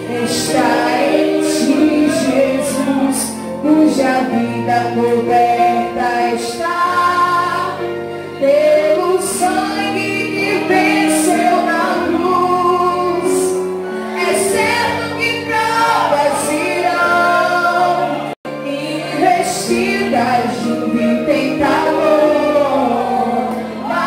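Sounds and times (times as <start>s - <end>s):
musical accompaniment: 0.0s - 24.0s
people singing a hymn: 0.0s - 24.0s.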